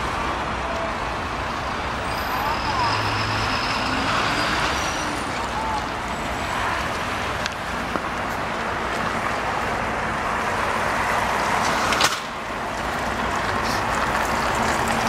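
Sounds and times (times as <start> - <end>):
cars passing on road: 0.0 - 15.0.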